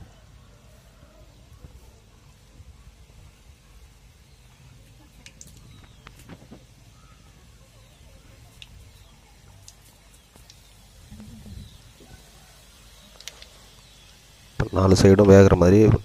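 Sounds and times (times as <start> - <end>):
oil sizzling with crackles: 0.0 - 16.0.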